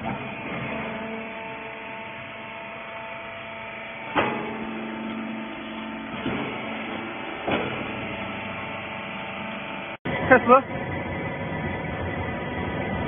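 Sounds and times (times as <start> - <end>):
hydraulic baler humming: 0.0 - 13.0.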